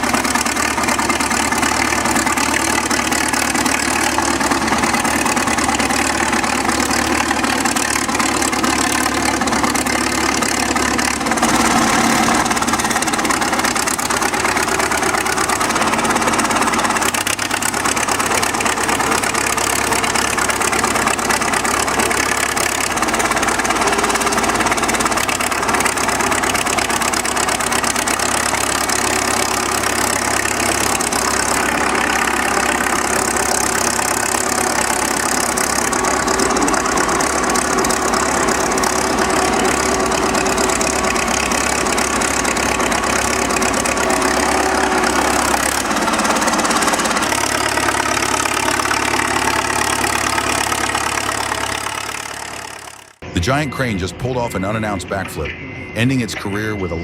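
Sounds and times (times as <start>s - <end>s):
heavy machinery engine idling: 0.0s - 57.0s.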